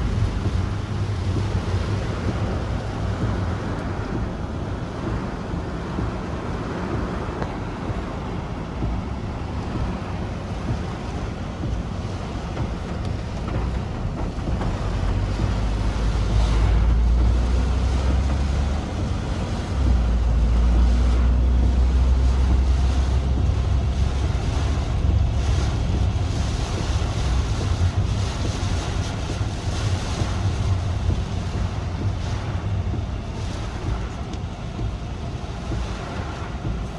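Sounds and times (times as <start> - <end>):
wind gusting against microphone: 0.0 - 36.9.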